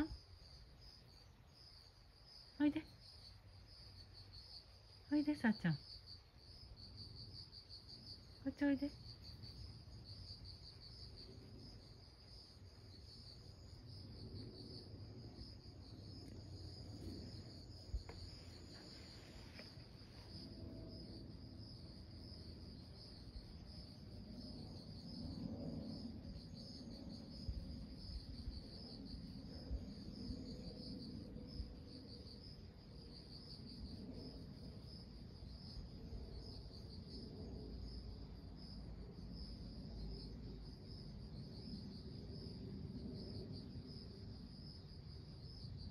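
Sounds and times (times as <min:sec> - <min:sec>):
low background rumble: 0:00.0 - 0:45.7
insects chirring: 0:00.0 - 0:45.9.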